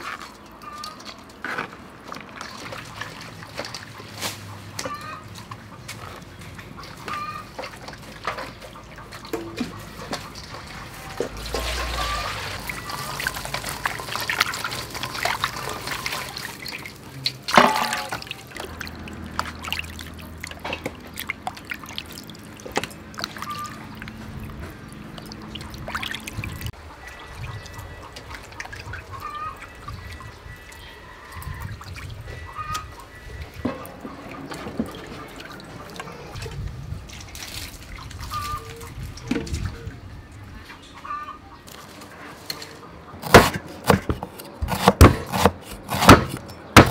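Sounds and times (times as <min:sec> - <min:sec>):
water sloshing and dripping: 0:00.0 - 0:40.5.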